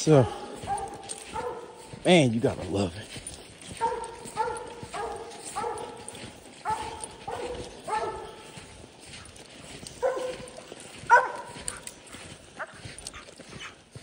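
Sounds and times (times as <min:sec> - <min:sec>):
hounds barking: 0:00.0 - 0:14.0.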